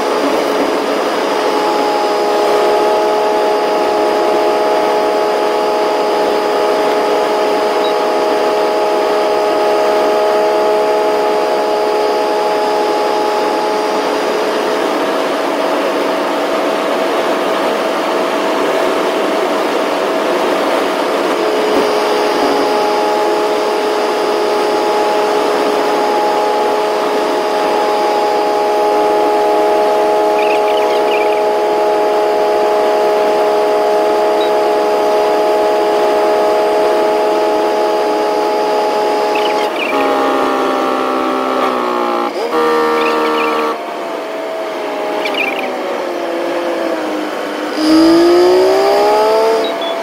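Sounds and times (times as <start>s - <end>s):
steady tonal hum: 0.0s - 50.0s
truck engine and road noise: 0.0s - 50.0s.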